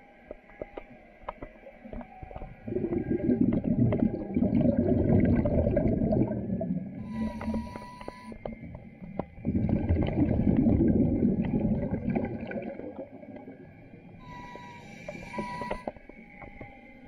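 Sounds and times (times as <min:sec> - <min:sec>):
underwater bubbles gurgling: 0:00.3 - 0:16.8.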